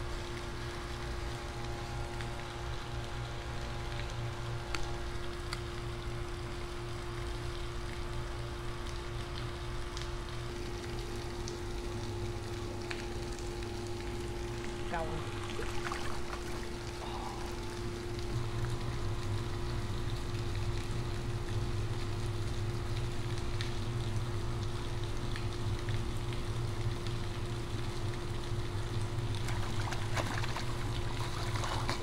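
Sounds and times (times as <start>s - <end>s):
low mechanical hum: 0.0s - 32.0s
running water: 6.0s - 32.0s.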